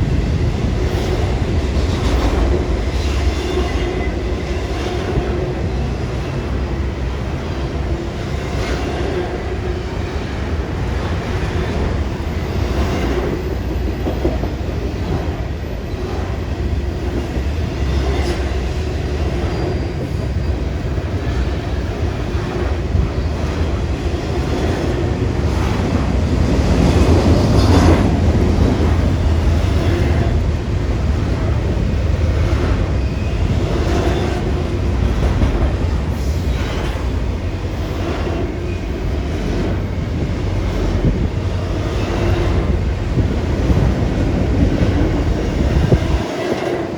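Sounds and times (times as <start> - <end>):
freight train cars rumbling: 0.0 - 46.9.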